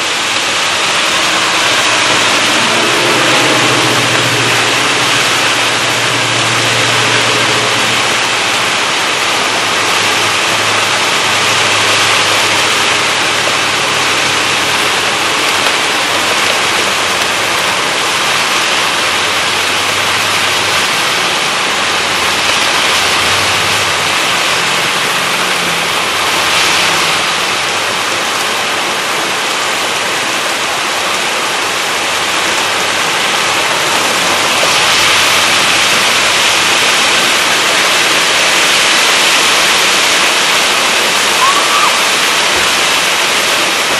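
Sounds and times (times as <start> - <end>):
gusty wind: 0.0 - 43.9
heavy rain: 0.0 - 43.9.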